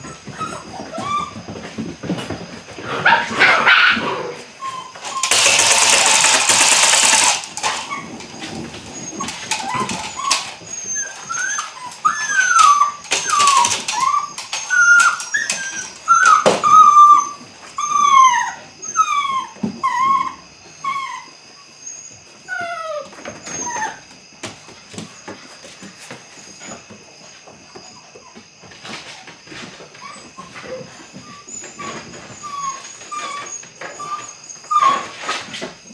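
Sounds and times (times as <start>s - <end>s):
puppy yipping and whining: 0.0s - 1.6s, 2.9s - 24.1s, 27.9s - 35.9s.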